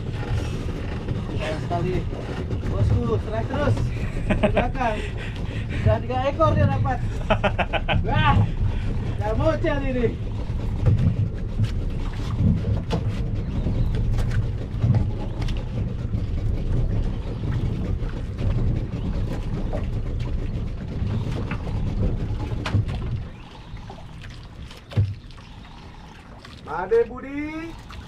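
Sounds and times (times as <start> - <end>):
boat motor rumbling: 0.0 - 28.0.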